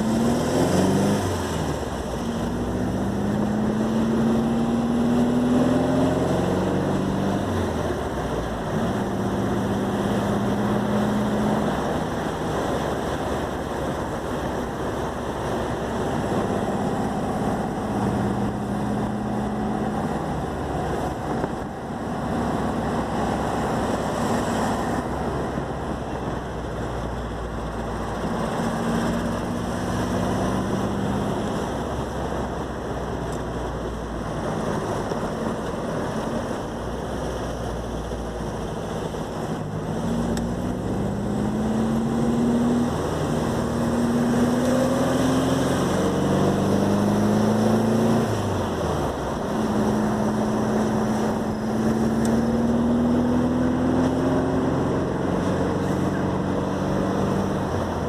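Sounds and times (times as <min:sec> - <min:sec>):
car engine running: 0:00.0 - 0:58.0
road and wind noise: 0:00.0 - 0:58.0.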